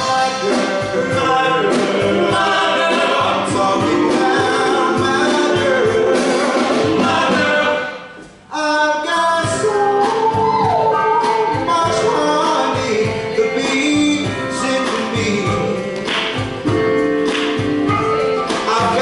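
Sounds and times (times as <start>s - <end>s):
backing vocal harmonies: 0.0s - 19.0s
lead singer: 0.0s - 19.0s
live band playing: 0.0s - 19.0s.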